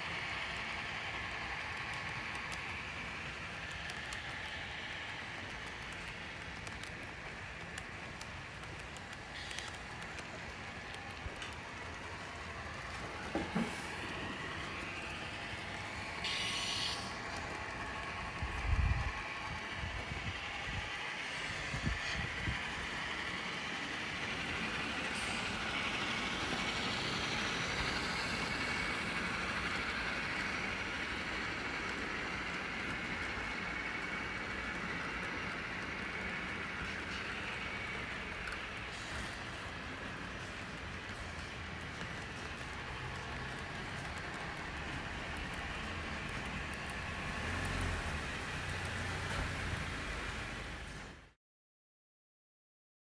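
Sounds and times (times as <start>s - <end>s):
model train motors whirring: 0.0s - 51.3s.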